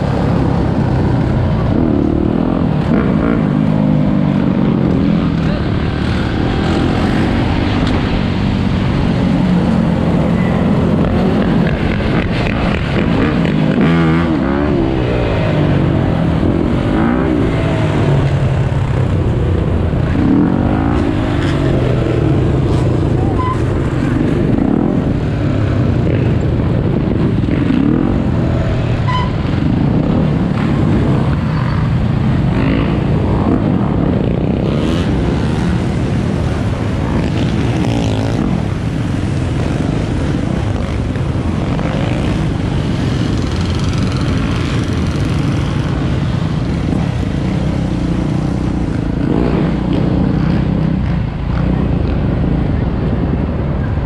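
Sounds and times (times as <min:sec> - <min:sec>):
dirt bike and atv engines revving: 0:00.0 - 0:54.0.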